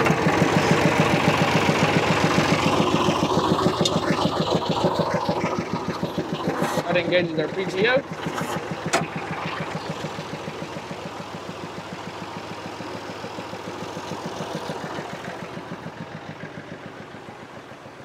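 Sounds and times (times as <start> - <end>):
diesel engine popping: 0.0 - 18.0.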